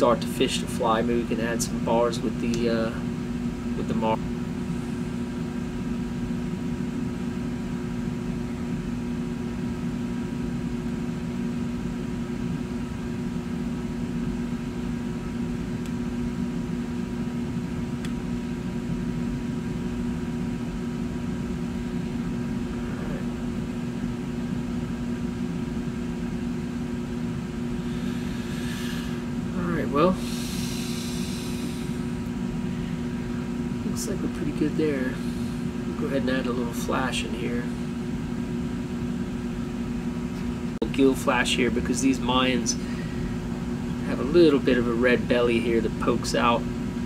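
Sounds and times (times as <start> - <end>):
machine hum with tones: 0.0 - 47.0.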